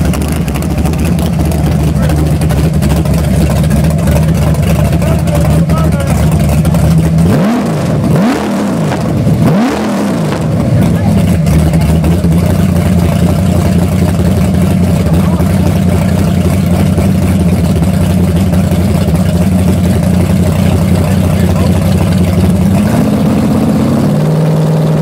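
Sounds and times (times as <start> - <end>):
car engine idling: 0.0 - 25.0
car engine revving: 0.0 - 25.0.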